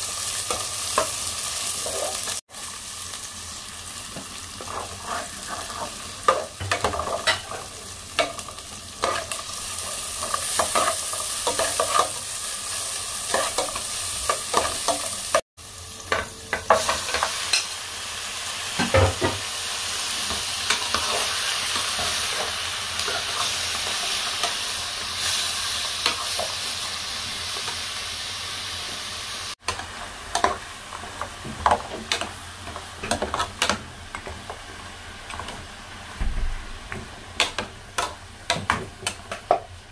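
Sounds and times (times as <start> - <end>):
food sizzling in oil: 0.0 - 36.2.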